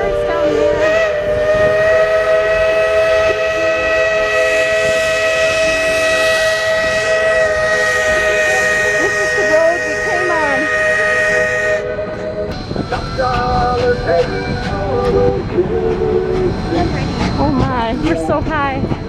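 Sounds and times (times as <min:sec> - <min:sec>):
steam locomotive whistle blast: 0:00.0 - 0:18.2
train running noise: 0:00.0 - 0:19.0.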